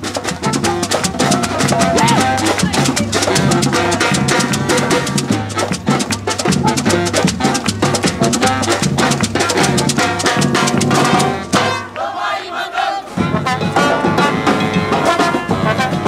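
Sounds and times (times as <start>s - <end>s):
brass: 0.0s - 16.0s
drums and percussion: 0.0s - 16.0s.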